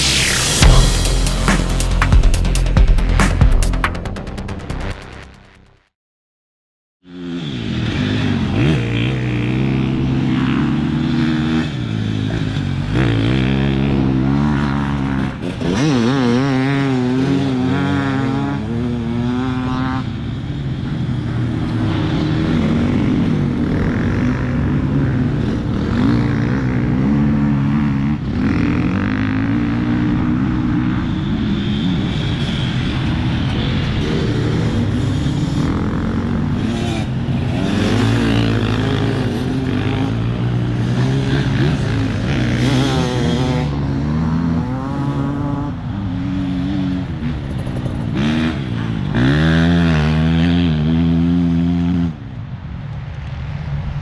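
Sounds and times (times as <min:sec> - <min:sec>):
motorcycle engine revving: 0:07.0 - 0:52.1.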